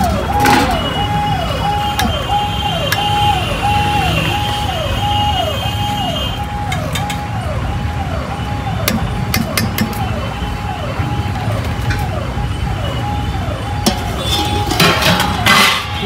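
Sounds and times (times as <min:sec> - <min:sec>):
electronic siren: 0:00.0 - 0:16.0
street traffic rumble: 0:00.0 - 0:16.0.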